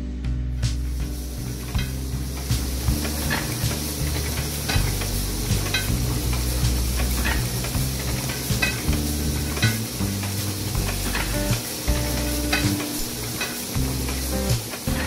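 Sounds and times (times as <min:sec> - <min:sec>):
letterpress clattering: 0:01.5 - 0:15.0.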